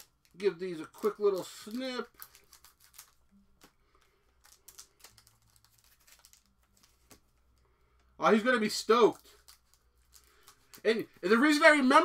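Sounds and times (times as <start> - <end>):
foil wrappers crinkling: 0.0 - 7.3, 9.1 - 12.0.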